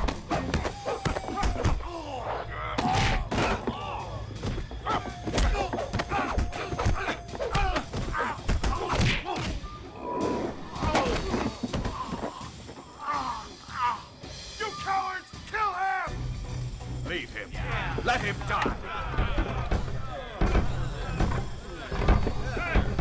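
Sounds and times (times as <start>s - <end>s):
fighters shouting and grunting: 0.0s - 23.0s.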